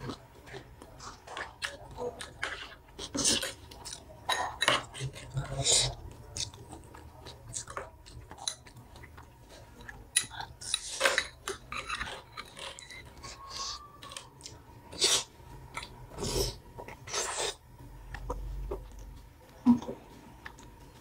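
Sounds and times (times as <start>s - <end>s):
chewing and mouth noises: 0.0s - 21.0s.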